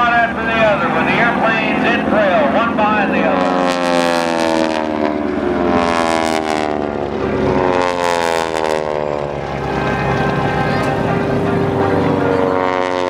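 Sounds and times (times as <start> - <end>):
propeller airplane flying by: 0.0 - 13.0.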